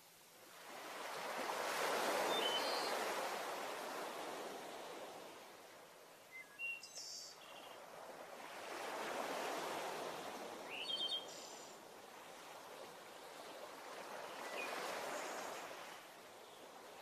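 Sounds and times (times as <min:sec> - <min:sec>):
waves rushing: 0:00.5 - 0:06.0, 0:07.9 - 0:17.0.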